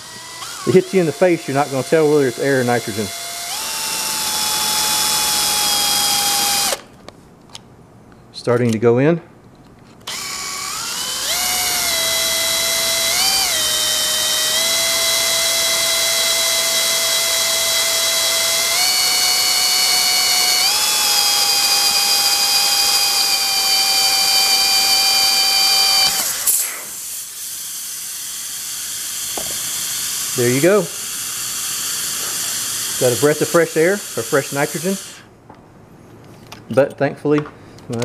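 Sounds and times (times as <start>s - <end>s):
electric drill whining through steel: 0.0s - 6.9s, 10.0s - 35.3s.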